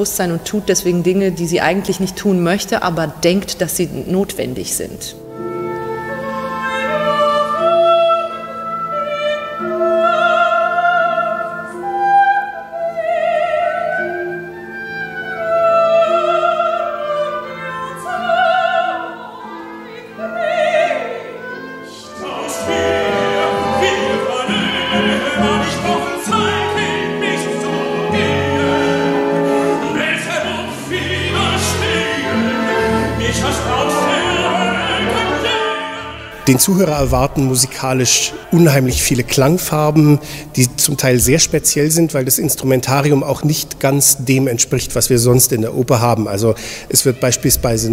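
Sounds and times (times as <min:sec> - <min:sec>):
operatic soprano singing: 0:00.0 - 0:47.9
orchestra playing: 0:00.2 - 0:45.0.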